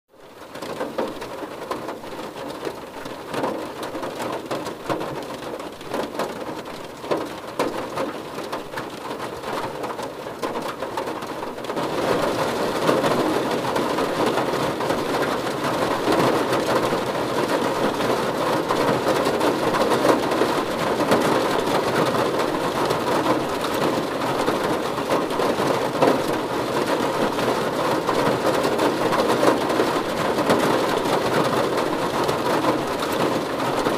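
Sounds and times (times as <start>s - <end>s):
rain drops ticking on a car: 0.2s - 33.9s.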